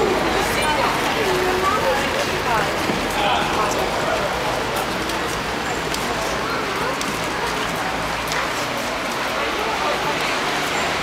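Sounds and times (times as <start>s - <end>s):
street ambience hiss: 0.0s - 11.0s.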